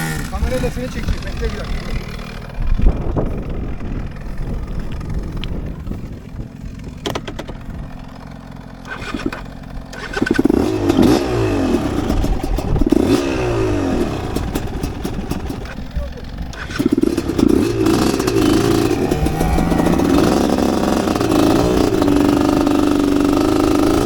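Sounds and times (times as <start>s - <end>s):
dirt bike engine revving: 0.0s - 24.0s
sharp clicks and rattles: 0.0s - 24.0s.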